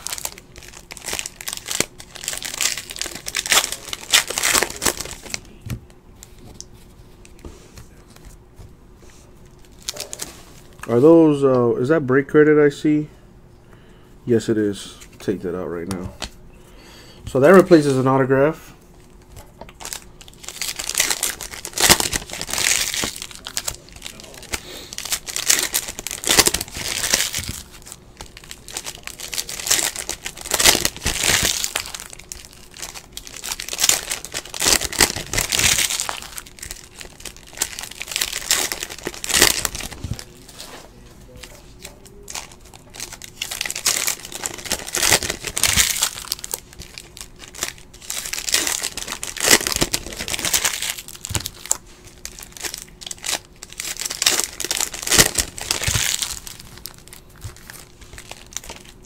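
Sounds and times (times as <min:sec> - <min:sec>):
foil wrappers crinkling and tearing: 0:00.0 - 0:06.6, 0:09.5 - 0:11.0, 0:19.1 - 0:59.0.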